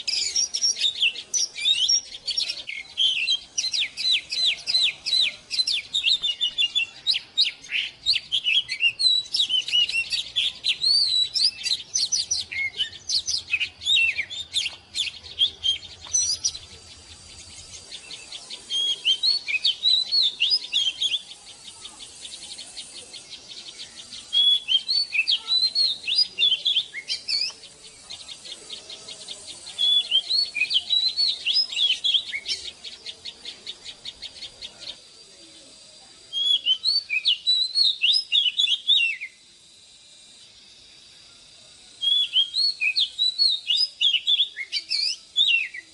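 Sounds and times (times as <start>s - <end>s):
bird singing whistled phrases: 0.0s - 35.0s, 36.2s - 39.4s, 41.9s - 45.9s.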